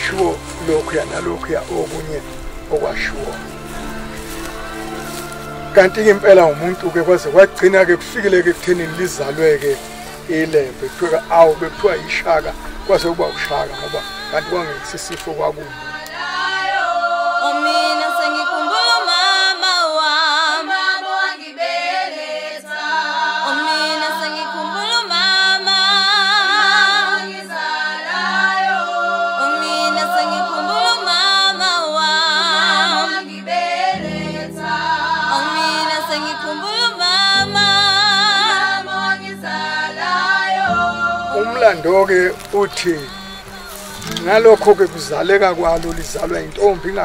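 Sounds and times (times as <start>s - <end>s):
a cappella choir singing: 0.0s - 47.0s.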